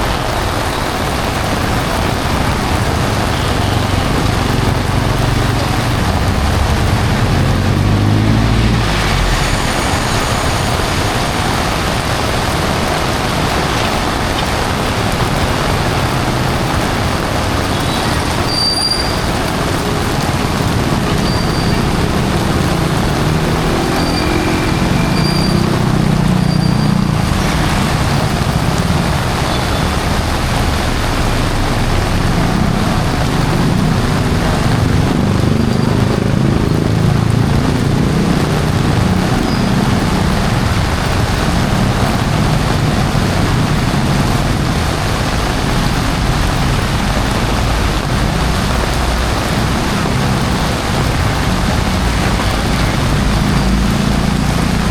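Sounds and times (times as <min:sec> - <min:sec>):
heavy rain falling: 0:00.0 - 0:54.9
vehicles passing on wet road: 0:00.0 - 0:54.9.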